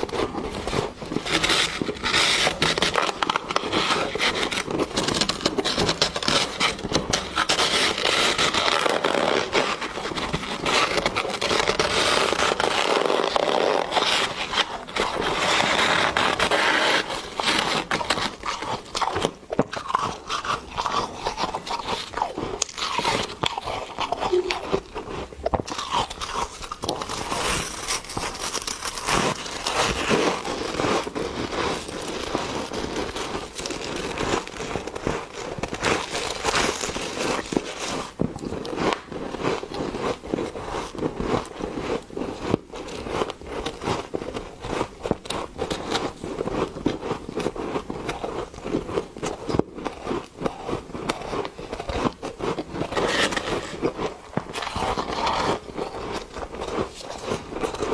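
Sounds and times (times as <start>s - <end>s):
chewing crunchy ice: 0.0s - 57.9s.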